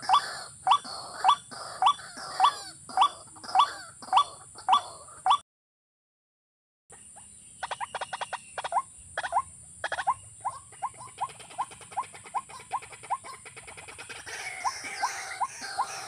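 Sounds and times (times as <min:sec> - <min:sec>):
bird calling: 0:00.0 - 0:05.4, 0:06.9 - 0:16.0.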